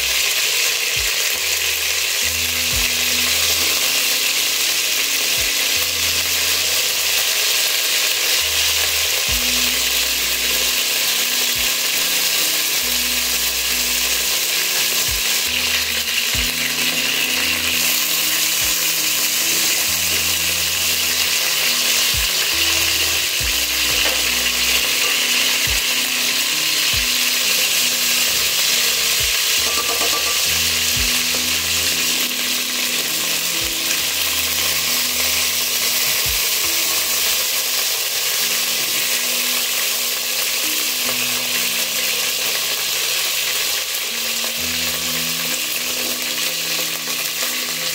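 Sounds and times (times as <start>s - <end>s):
chicken sizzling in hot oil: 0.0s - 47.9s.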